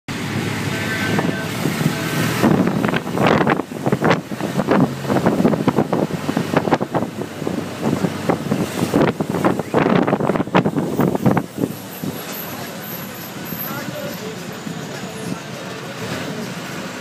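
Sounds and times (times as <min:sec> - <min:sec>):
bus engine and road noise: 0:00.1 - 0:17.0
bus rattling and knocking: 0:00.1 - 0:17.0.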